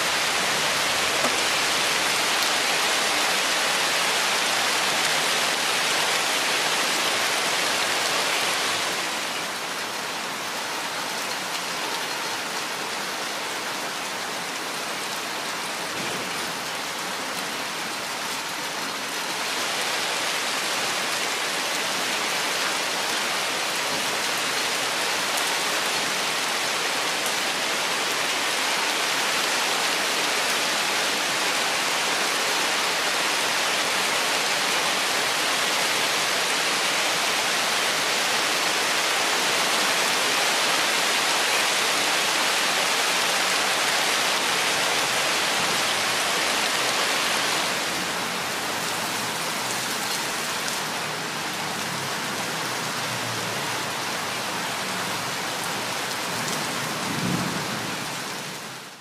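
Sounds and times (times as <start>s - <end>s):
rain on foliage: 0.0s - 59.0s.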